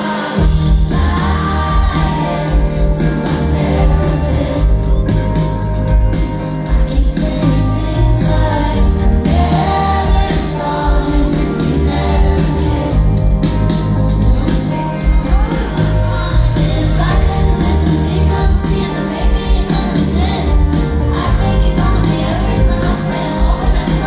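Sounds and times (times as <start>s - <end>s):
woman singing: 0.0s - 5.3s, 6.6s - 13.6s, 14.2s - 24.0s
band with heavy bass and drums: 0.0s - 24.0s.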